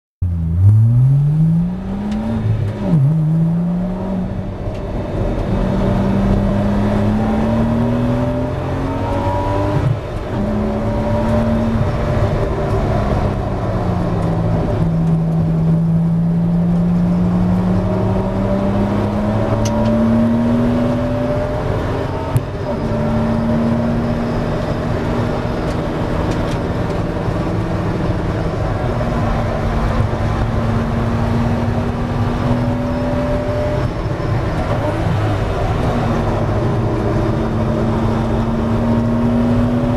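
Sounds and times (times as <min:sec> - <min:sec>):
race car engine accelerating: 0:00.3 - 0:39.9.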